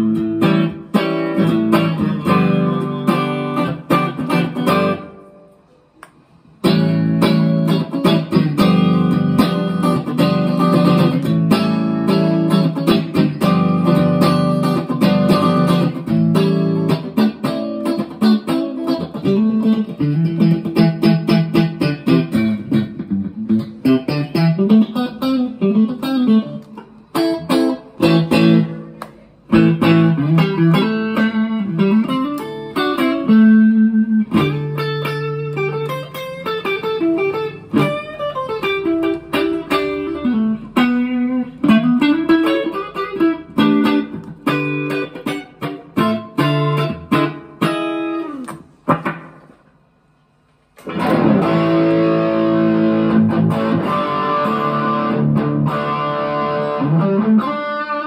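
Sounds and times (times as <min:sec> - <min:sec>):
clean electric guitar playing: 0:00.0 - 0:06.0, 0:06.6 - 0:49.2, 0:50.8 - 0:58.0.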